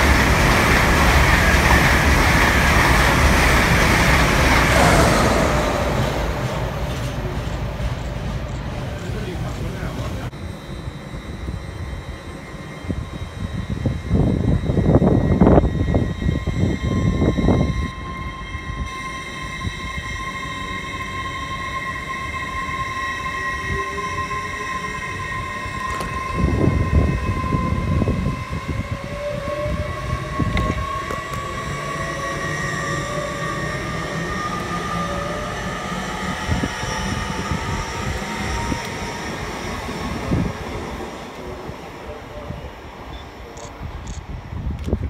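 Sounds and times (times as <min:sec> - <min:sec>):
electric train whine: 0:00.0 - 0:45.0
train wheels rumbling: 0:00.0 - 0:45.0.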